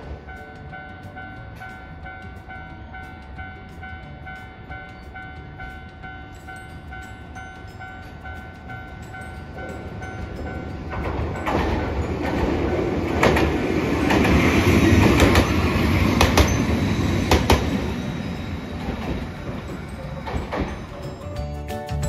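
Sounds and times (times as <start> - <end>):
tram rumbling past: 0.0 - 22.0
wheels clacking over rail joints: 0.0 - 22.0.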